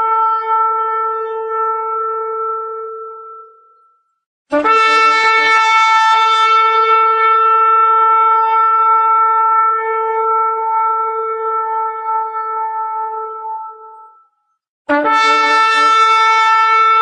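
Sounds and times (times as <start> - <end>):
shofar blast: 0.0 - 3.8, 4.5 - 14.2, 14.9 - 17.0.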